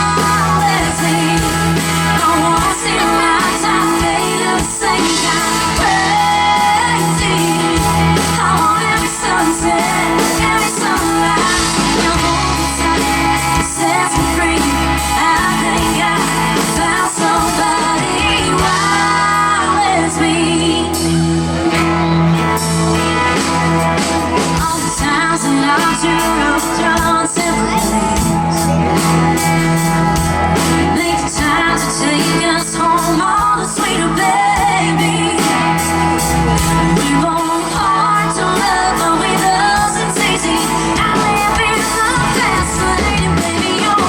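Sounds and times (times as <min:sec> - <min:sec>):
woman singing: 0:00.0 - 0:21.8, 0:24.4 - 0:28.8, 0:30.6 - 0:44.0
live band playing country pop: 0:00.0 - 0:44.0.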